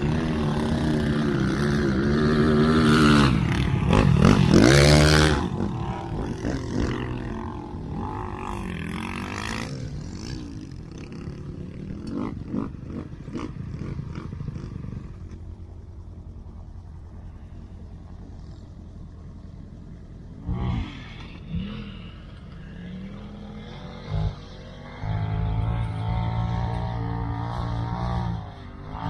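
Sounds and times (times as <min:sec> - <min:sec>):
quad bike engine revving: 0:00.0 - 0:15.4, 0:20.4 - 0:29.0.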